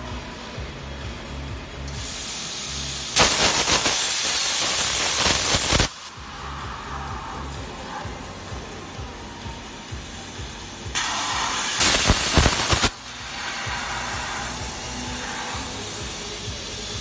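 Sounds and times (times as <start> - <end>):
air hissing from torch: 1.9 - 17.0
plasma arc hissing loudly: 1.9 - 17.0.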